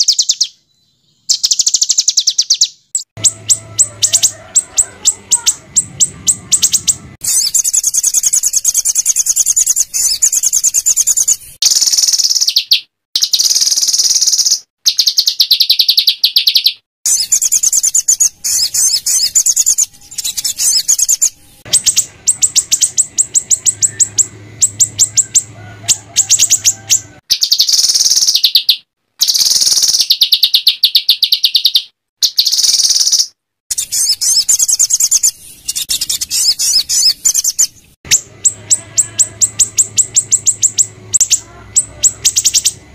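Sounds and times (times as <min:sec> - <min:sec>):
songbirds singing rapid trills: 0:00.0 - 0:42.9.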